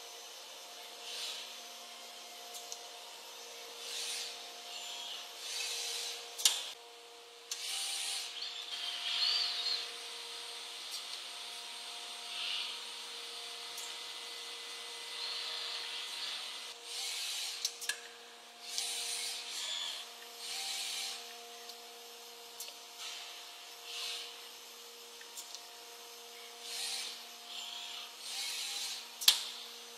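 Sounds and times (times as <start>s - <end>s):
machine hum with held tones: 0.0s - 29.9s.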